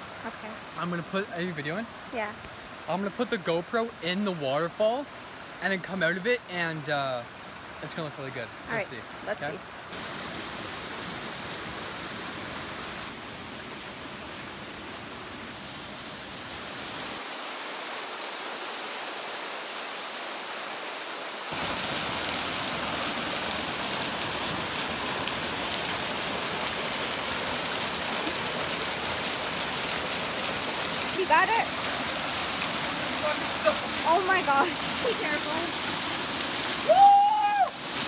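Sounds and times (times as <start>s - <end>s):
waterfall cascading over rocks: 0.0s - 38.0s.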